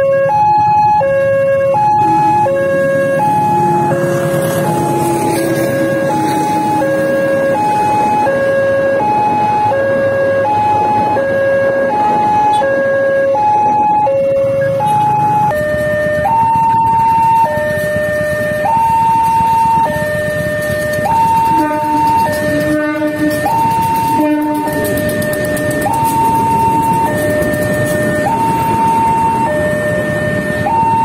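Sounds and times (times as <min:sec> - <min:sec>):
waiting traffic: 0:00.0 - 0:31.0
level crossing two-tone alarm: 0:00.2 - 0:31.0
passing train rumble: 0:00.7 - 0:31.0.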